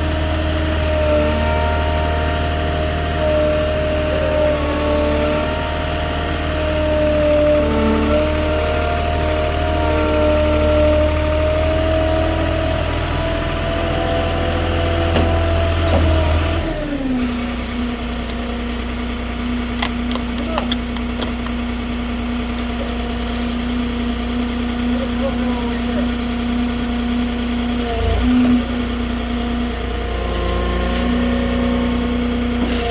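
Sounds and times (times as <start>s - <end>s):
forklift engine idling: 0.0s - 32.9s.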